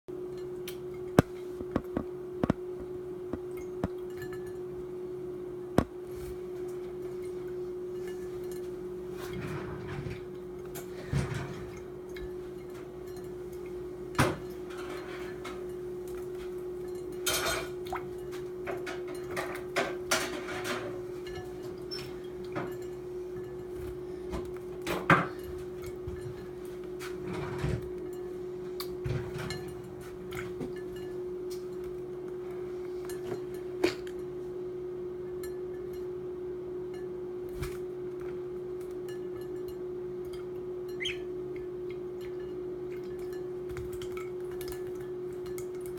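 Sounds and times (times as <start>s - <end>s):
low steady hum: 0.1s - 45.9s.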